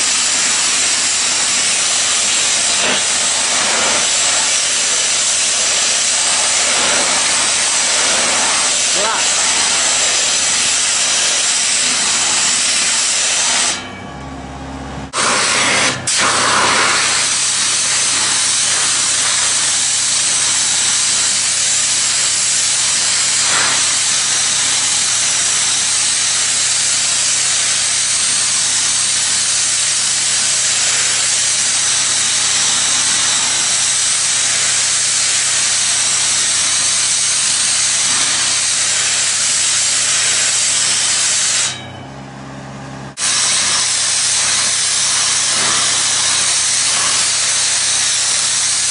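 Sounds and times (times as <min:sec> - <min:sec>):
high-pressure water jet hissing: 0:00.0 - 0:13.8, 0:15.1 - 0:41.8, 0:43.2 - 0:48.9.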